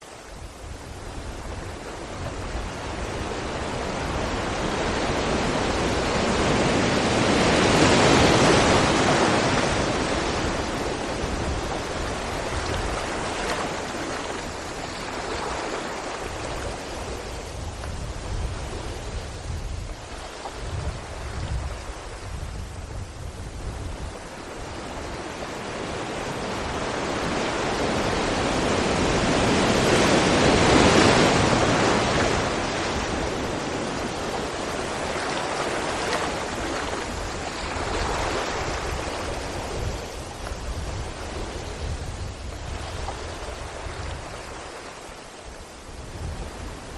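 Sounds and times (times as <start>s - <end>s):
wind on microphone: 0.0s - 46.9s
waves breaking against rocks: 2.3s - 22.5s, 24.6s - 45.1s.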